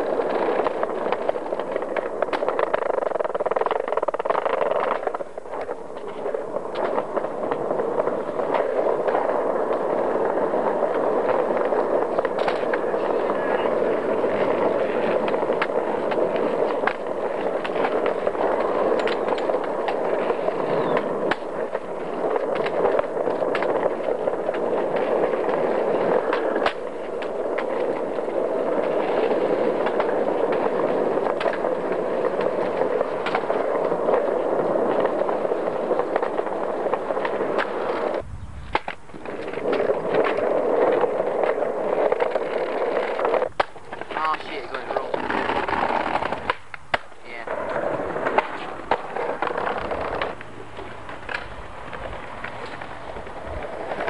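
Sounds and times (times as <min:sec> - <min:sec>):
skateboard wheels rolling on paving: 0:00.0 - 0:54.0
wheels clicking over joints: 0:00.0 - 0:54.0.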